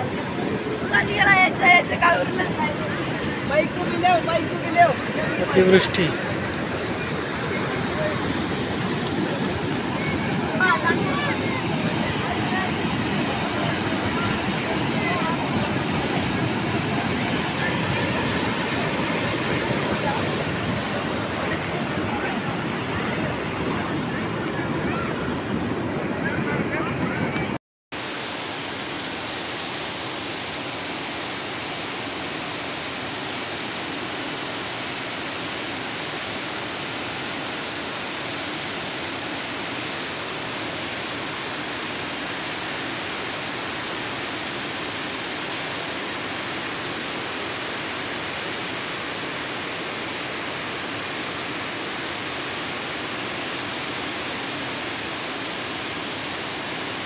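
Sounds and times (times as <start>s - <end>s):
floodwater rushing through spillway: 0.0s - 57.0s.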